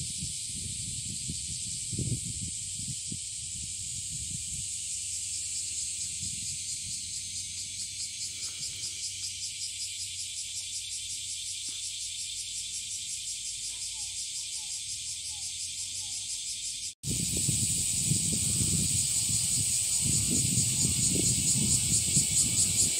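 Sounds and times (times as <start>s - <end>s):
insects droning: 0.0s - 22.9s
short insect chirps: 0.0s - 22.9s.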